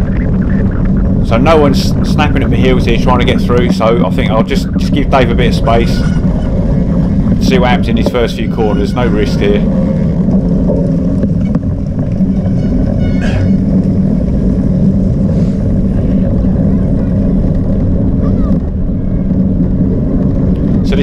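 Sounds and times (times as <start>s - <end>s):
bicycle tyre noise on grass: 0.0s - 21.0s
wind buffeting microphone: 0.0s - 21.0s.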